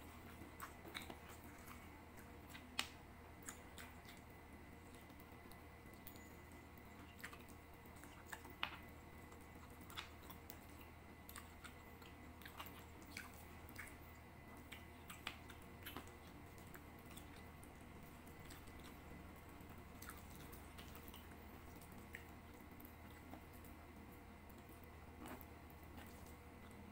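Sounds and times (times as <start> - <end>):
chewing and biting: 0.0 - 26.9.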